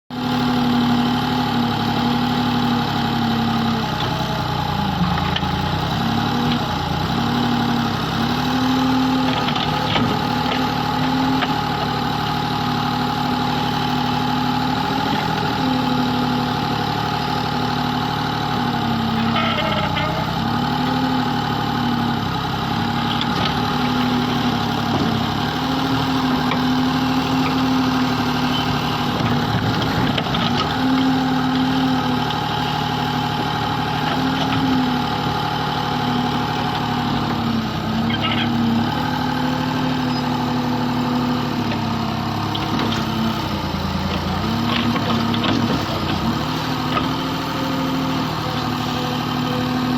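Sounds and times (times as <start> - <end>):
excavator diesel engine running: 0.1 - 49.9.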